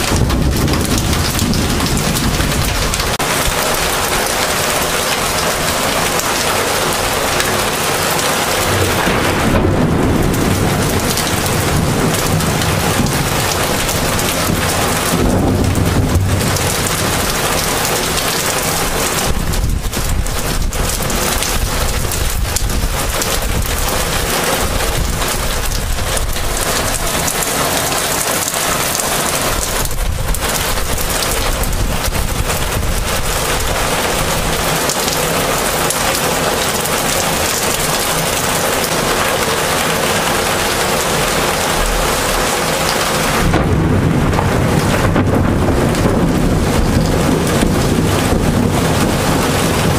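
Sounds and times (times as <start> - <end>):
heavy rain falling: 0.0 - 49.9
thunder rumbling: 0.0 - 49.9.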